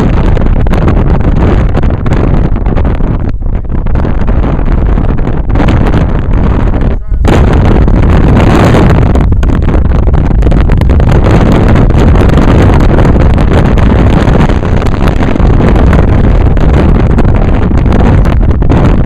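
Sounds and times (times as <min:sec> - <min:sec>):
car road noise: 0:00.0 - 0:19.0
wind buffeting microphone: 0:00.0 - 0:19.0.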